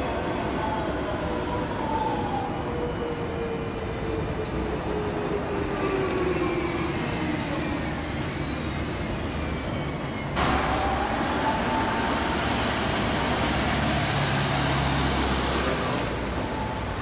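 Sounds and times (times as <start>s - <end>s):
tram rumbling: 0.0s - 17.0s
tram motor whine: 2.1s - 17.0s.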